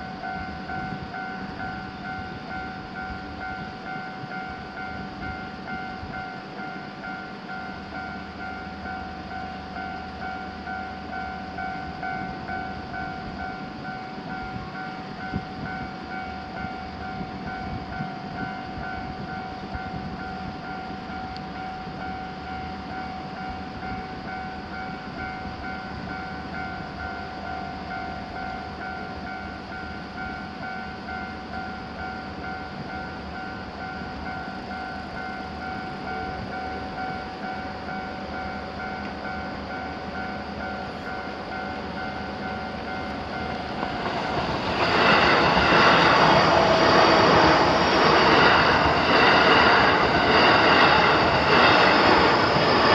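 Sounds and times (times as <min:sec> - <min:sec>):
continuous low rumble: 0:00.0 - 0:52.9
railroad crossing bell ringing: 0:00.0 - 0:52.9.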